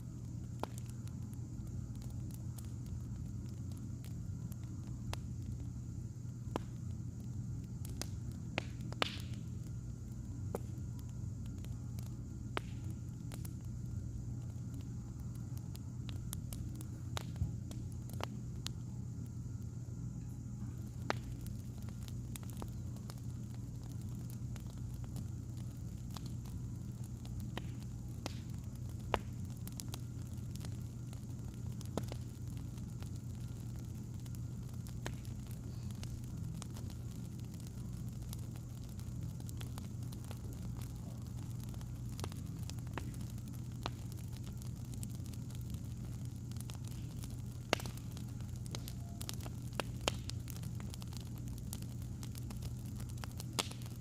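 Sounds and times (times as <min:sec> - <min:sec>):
firewood crackling and popping: 0:00.0 - 0:54.0
low hum: 0:00.0 - 0:54.0.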